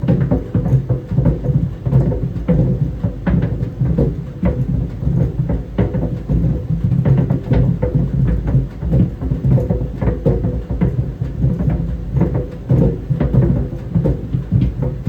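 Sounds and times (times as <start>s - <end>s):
balls thumping in a dryer drum: 0.0s - 15.0s.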